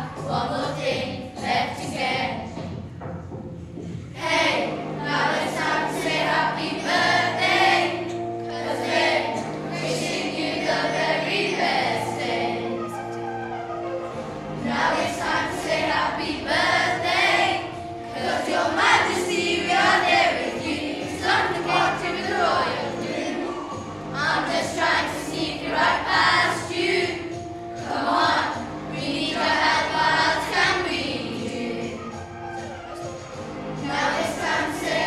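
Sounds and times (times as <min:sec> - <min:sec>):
children singing: 0:00.0 - 0:02.6, 0:04.1 - 0:35.0.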